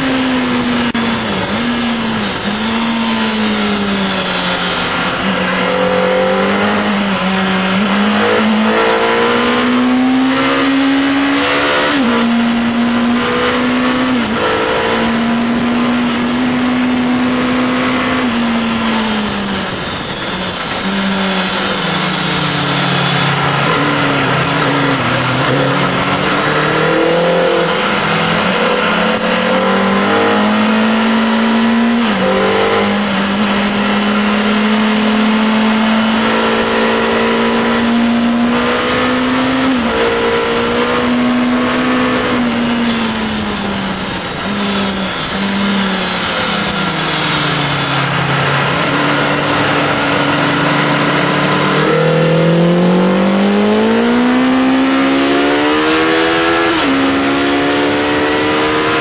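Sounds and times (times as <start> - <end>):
motorcycle engine at speed: 0.0 - 59.0.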